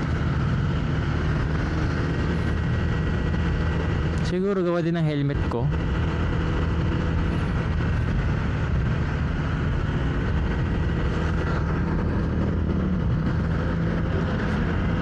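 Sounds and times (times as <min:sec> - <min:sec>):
motorcycle engine drone: 0:00.0 - 0:15.0
road noise: 0:00.0 - 0:15.0
rushing wind: 0:00.0 - 0:15.0.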